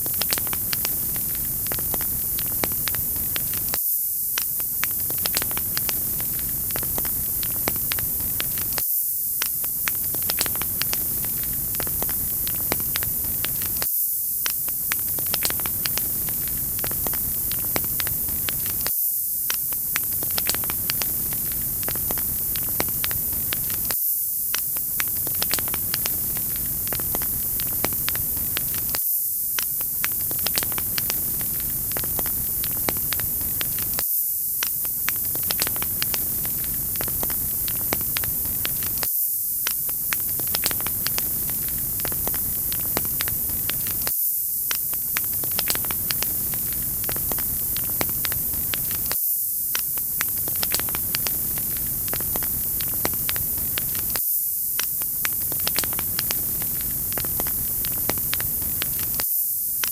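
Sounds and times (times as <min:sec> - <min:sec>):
wood fire crackling and popping: 0:00.0 - 0:08.8, 0:09.4 - 0:54.2, 0:54.8 - 0:59.9
steady high hiss: 0:00.0 - 0:59.9.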